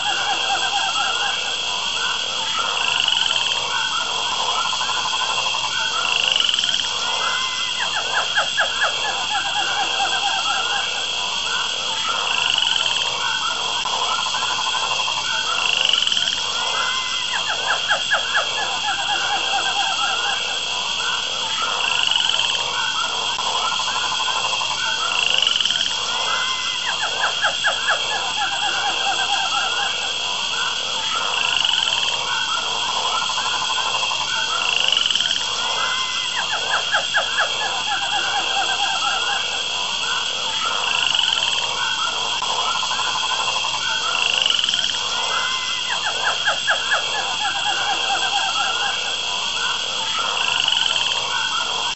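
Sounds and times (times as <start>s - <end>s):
frogs croaking: 0.0s - 51.9s.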